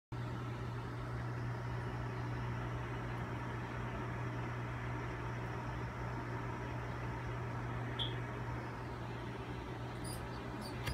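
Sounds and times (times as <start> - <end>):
low electrical hum: 0.2 - 10.9.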